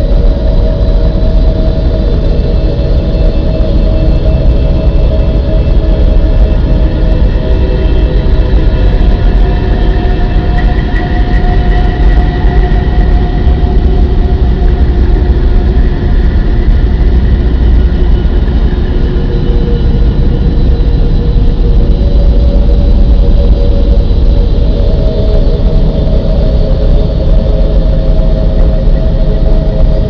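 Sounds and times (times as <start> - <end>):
low rumbling drone: 0.0 - 30.0.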